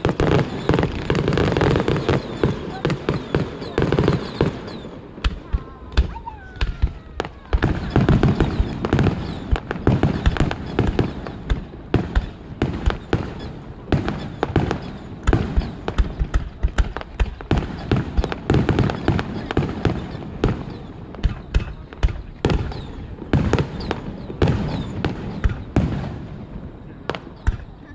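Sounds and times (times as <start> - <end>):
firework bursts and crackles: 0.0 - 27.9.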